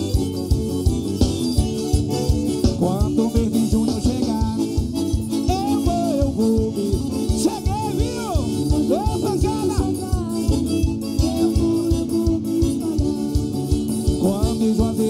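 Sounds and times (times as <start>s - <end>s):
accordion melody: 0.0s - 15.0s.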